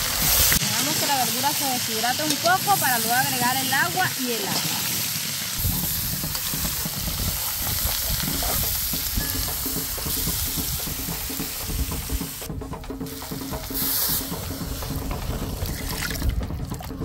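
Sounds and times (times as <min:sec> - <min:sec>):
bacon and vegetables sizzling: 0:00.0 - 0:16.0.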